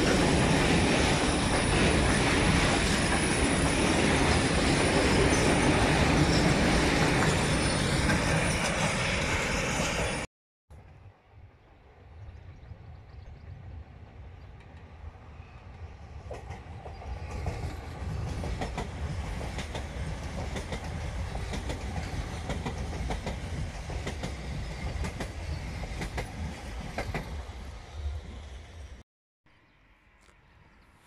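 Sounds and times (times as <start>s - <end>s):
train rumble: 0.0s - 10.3s, 12.7s - 29.0s.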